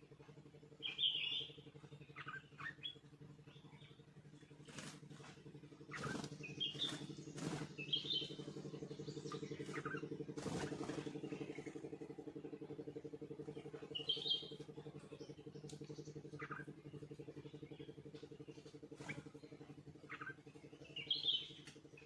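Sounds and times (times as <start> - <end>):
low engine hum: 0.0 - 22.0
small birds chirping: 0.0 - 22.0.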